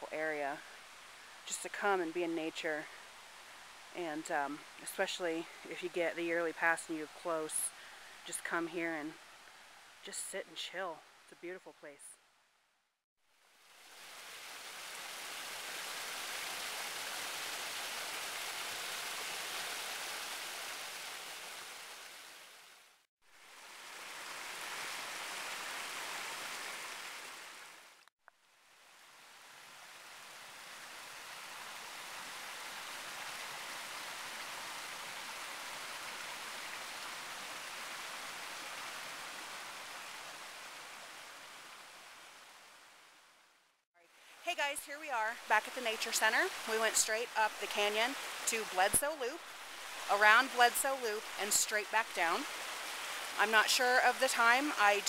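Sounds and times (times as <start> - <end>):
water flowing over rocks: 0.0 - 10.3, 13.3 - 43.5, 44.1 - 55.0.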